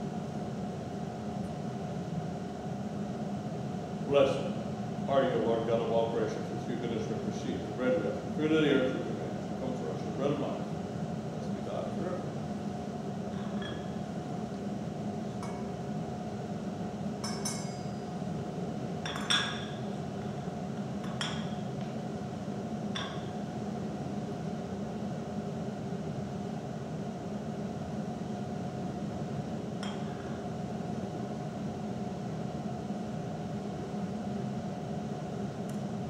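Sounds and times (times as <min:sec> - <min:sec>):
room hum: 0:00.0 - 0:36.0.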